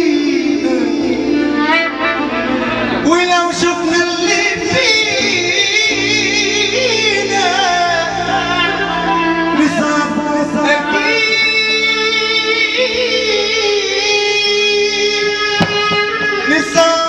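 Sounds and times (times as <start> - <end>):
ornamented melody line: 0.0 - 17.0
person singing: 0.0 - 17.0.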